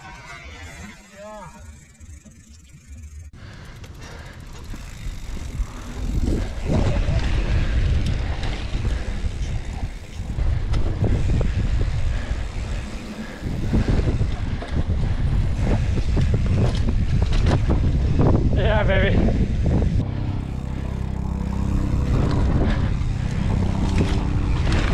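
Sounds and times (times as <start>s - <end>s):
bike knocking and rattling: 0.4s - 24.9s
wind buffeting microphone: 4.4s - 24.9s.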